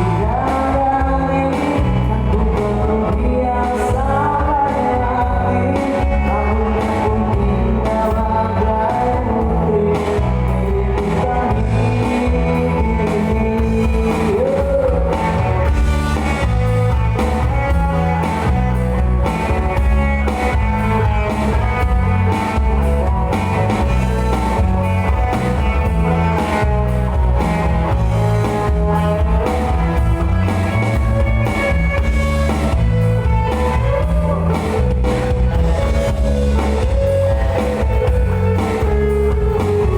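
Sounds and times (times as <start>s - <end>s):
bass: 0.0s - 39.9s
drums: 0.0s - 39.9s
electric guitar: 0.0s - 39.9s.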